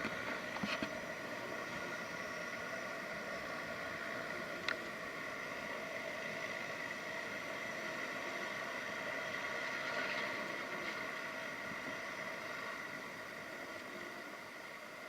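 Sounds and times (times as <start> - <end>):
distant turboprop engines whining: 0.0 - 15.0.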